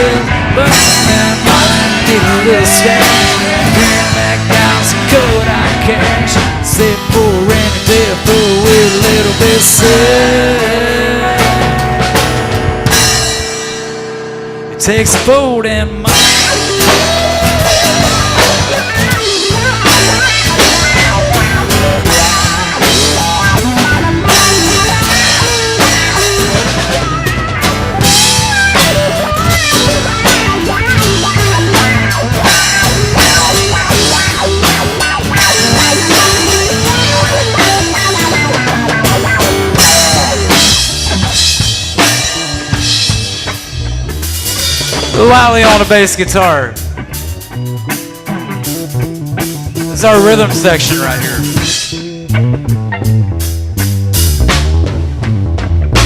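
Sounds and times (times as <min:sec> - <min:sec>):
wavering lead line: 0:00.0 - 0:55.6
drum kit with snare rimshots: 0:00.0 - 0:56.0
live country band playing: 0:00.0 - 0:56.0.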